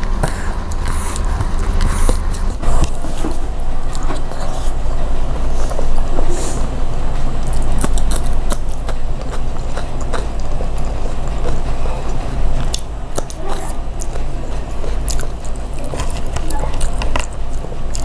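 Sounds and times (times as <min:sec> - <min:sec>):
chewing and biting food: 0:00.0 - 0:06.2, 0:07.2 - 0:18.0
steady low hum: 0:00.0 - 0:18.0.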